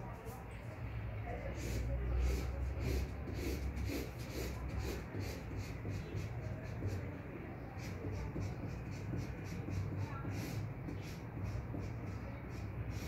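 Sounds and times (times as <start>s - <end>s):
marker scratching on paper: 1.4s - 13.0s.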